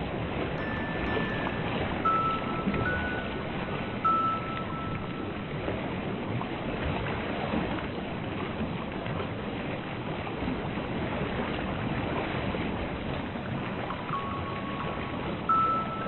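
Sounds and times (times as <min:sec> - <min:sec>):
ocean water rushing: 0:00.0 - 0:16.0.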